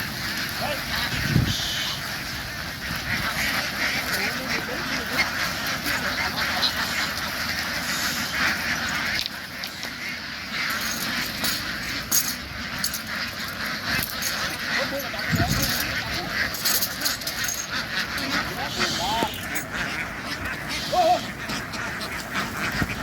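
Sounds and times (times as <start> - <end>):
ducks quacking: 0.0 - 23.0.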